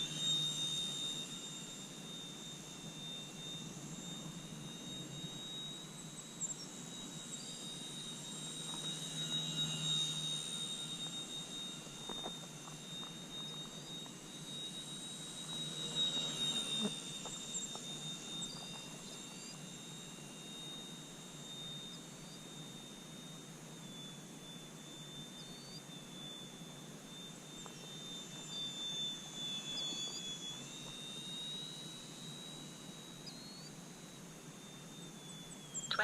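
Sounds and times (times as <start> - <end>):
rc airplane motor whining: 0.0 - 36.0.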